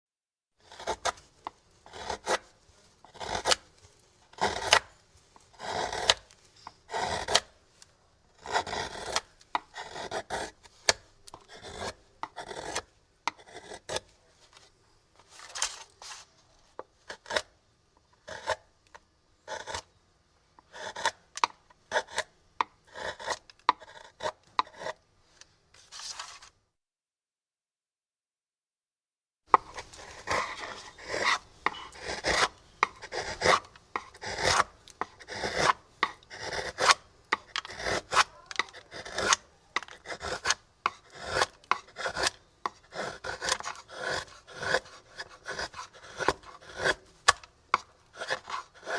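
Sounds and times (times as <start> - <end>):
chisel scraping wood: 0.6 - 7.6, 8.3 - 19.9, 20.6 - 26.5, 29.5 - 48.9.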